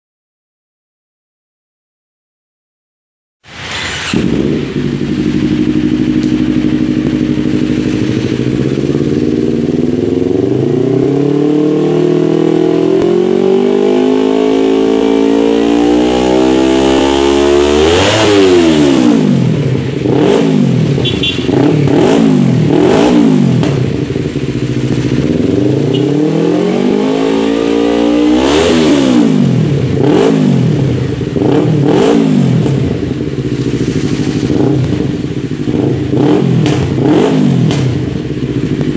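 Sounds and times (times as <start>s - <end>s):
motorcycle engine revving: 3.5s - 38.9s.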